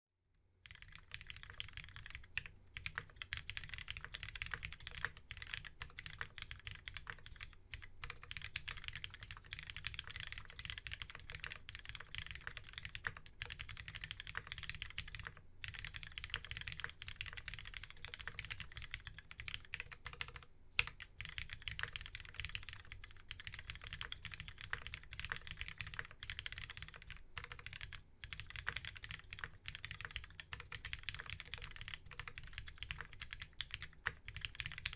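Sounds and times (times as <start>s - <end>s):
fast typing on mechanical keyboard: 0.6s - 34.9s.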